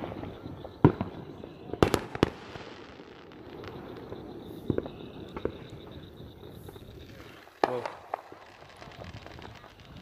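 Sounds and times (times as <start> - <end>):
fireworks bang: 0.0 - 10.0
fireworks cracking: 0.0 - 10.0.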